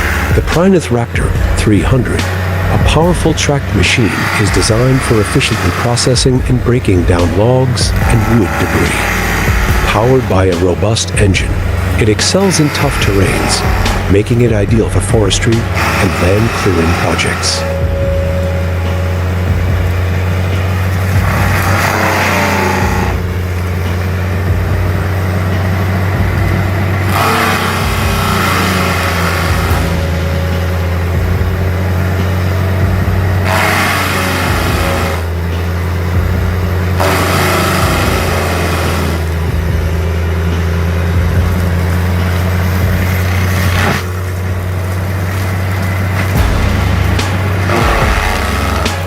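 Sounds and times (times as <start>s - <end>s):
harsh grinding of wood: 0.0s - 49.0s
heavy engine droning: 0.0s - 49.0s.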